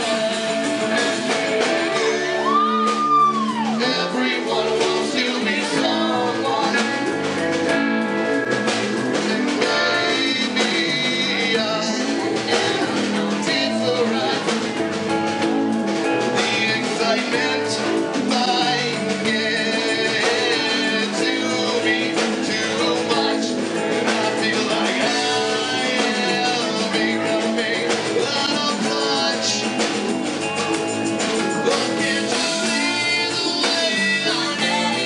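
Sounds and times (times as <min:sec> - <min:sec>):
person singing: 0:00.0 - 0:07.3, 0:09.2 - 0:14.8, 0:16.3 - 0:30.2, 0:31.6 - 0:35.0
drum kit beat: 0:00.0 - 0:35.0
electric guitar: 0:00.0 - 0:35.0
keyboard: 0:00.0 - 0:35.0.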